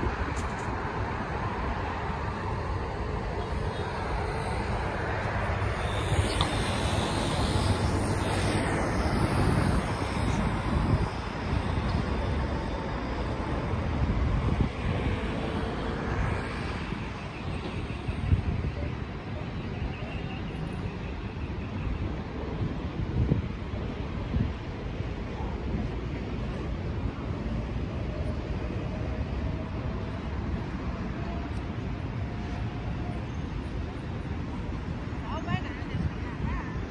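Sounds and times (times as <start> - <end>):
cars passing: 0.0 - 36.9
city traffic noise: 0.0 - 36.9
wind rumbling on microphone: 0.0 - 36.9.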